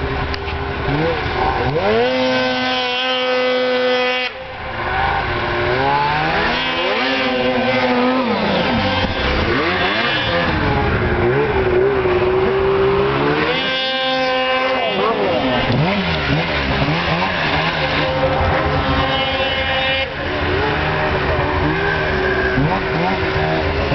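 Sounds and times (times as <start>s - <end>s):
small vehicle engines revving: 0.0s - 23.9s.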